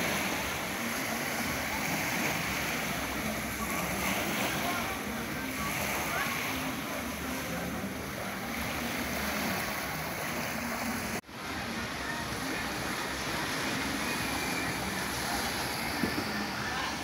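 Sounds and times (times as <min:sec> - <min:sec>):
waves washing onto pebble beach: 0:00.0 - 0:17.0.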